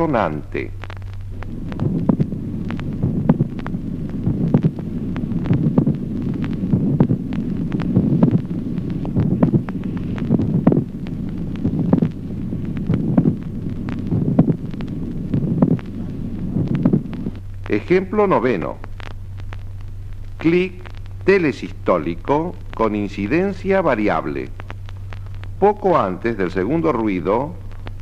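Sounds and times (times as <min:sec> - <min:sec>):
heartbeat with extra click: 0:00.0 - 0:28.0
low steady hum: 0:00.0 - 0:28.0.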